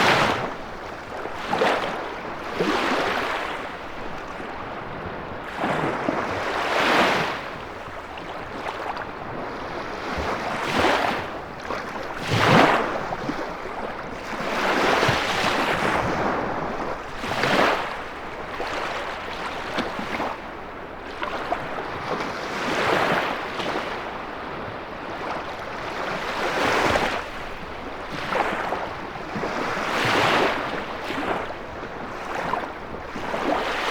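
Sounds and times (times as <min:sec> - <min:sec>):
waves breaking on shore: 0:00.0 - 0:33.9
wind: 0:00.0 - 0:33.9.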